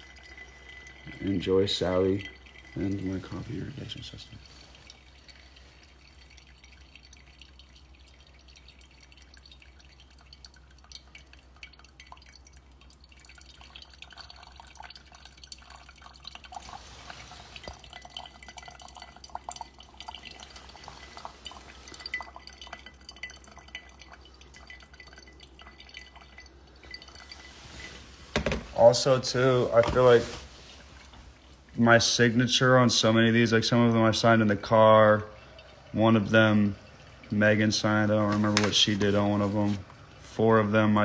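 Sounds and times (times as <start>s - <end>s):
coffee dripping and trickling: 0.0s - 41.0s.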